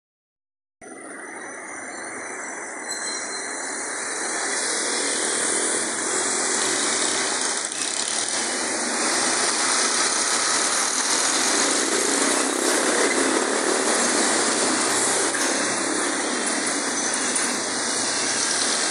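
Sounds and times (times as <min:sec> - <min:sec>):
steady rushing roar: 0:03.6 - 0:18.9.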